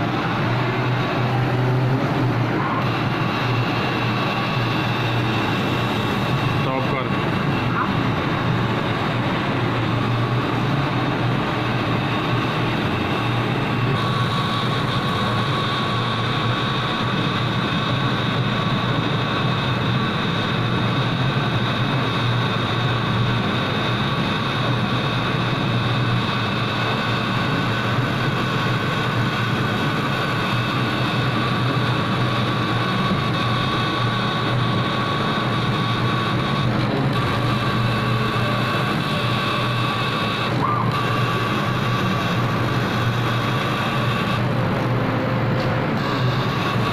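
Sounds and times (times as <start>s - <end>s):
laser cutter humming and whining: 0.0s - 46.9s.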